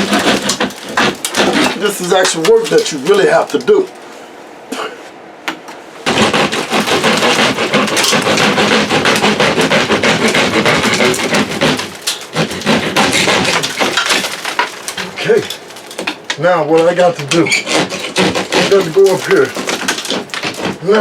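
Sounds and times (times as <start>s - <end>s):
rapid clattering and knocking: 0.0s - 3.8s, 6.1s - 20.8s.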